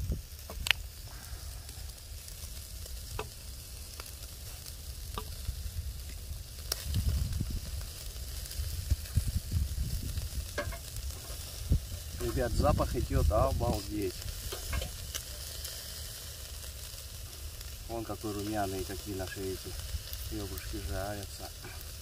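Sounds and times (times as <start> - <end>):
ribs sizzling on grill: 0.0 - 22.0.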